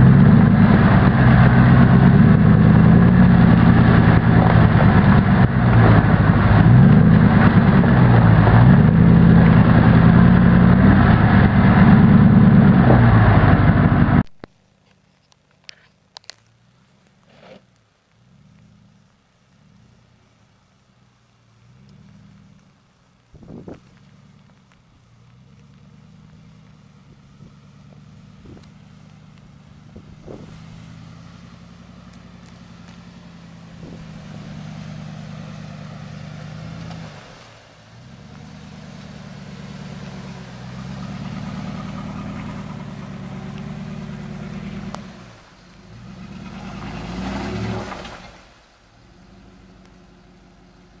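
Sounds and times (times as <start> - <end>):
gravel crunching under tyres: 0.0 - 51.0
truck engine at low revs: 0.0 - 51.0.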